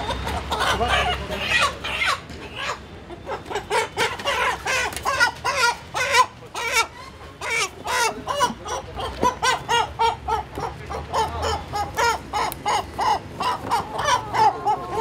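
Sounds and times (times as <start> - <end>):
chickens squawking and clucking: 0.0 - 15.0.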